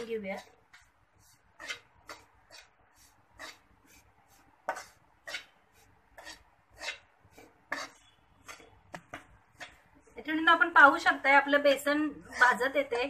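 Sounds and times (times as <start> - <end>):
metal spatula scraping a pan: 0.0 - 10.2, 11.8 - 13.0.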